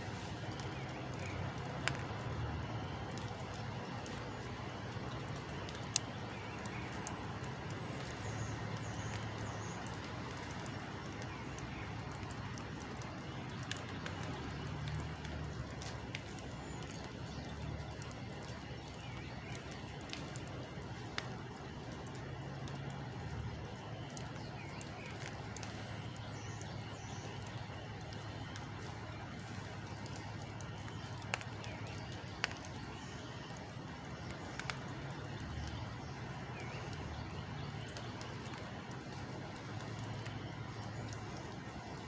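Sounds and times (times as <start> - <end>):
distant large engine humming: 0.0 - 42.0
faint sharp clicks: 0.1 - 42.0.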